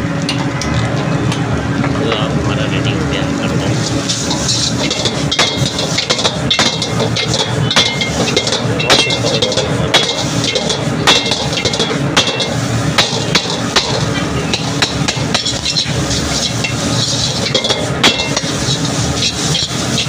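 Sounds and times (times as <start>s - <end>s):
food sizzling: 0.0s - 20.0s
gas burner noise: 0.0s - 20.0s
metal ladle clanking on wok: 3.8s - 20.0s.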